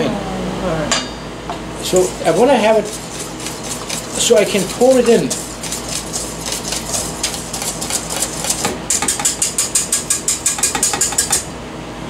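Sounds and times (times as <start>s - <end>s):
whisk beating in metal bowl: 1.8s - 11.5s.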